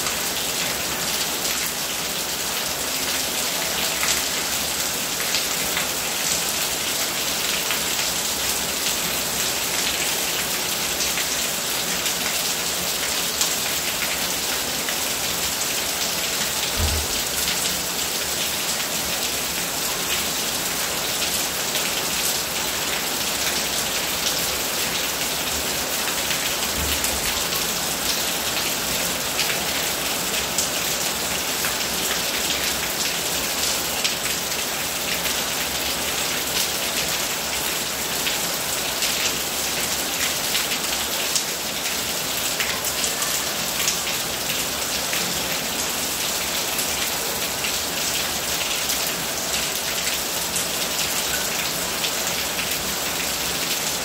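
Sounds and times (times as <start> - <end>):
rain pattering on hard surfaces: 0.0 - 54.0.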